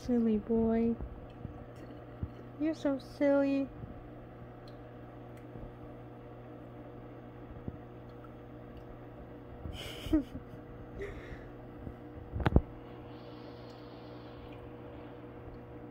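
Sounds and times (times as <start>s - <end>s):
aquarium equipment humming: 0.0s - 15.9s.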